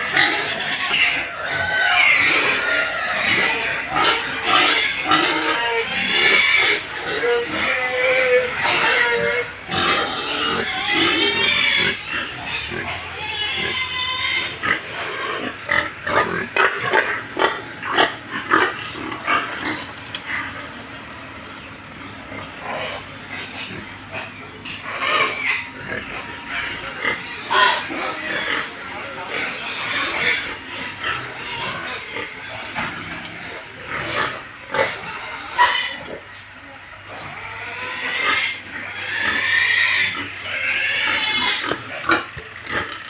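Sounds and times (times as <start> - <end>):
pigs grunting and squealing: 0.0 - 43.0.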